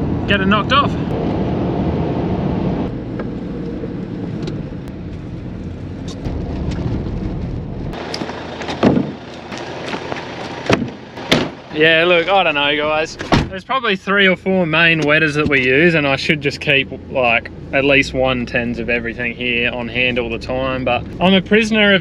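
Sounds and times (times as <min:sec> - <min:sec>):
road and engine noise in cabin: 0:00.0 - 0:22.0.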